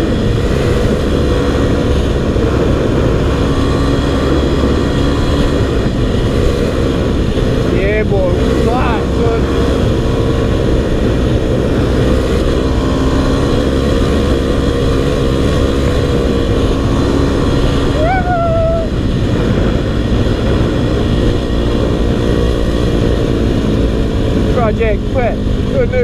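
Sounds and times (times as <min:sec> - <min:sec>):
dirt bike engine running: 0:00.0 - 0:26.0
wind rumble on microphone: 0:00.0 - 0:26.0.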